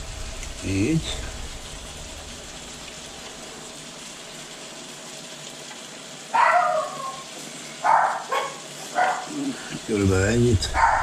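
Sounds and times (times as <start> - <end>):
broth simmering in a stockpot: 0.0 - 11.0.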